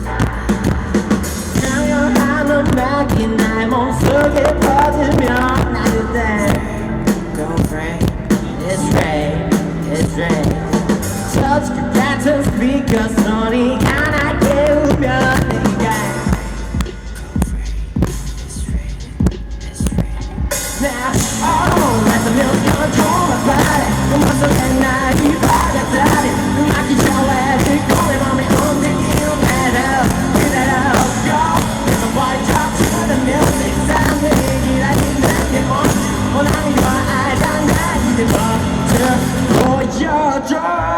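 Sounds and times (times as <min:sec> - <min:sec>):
rock band playing: 0:00.0 - 0:17.3, 0:19.4 - 0:40.0
person singing: 0:00.0 - 0:40.9.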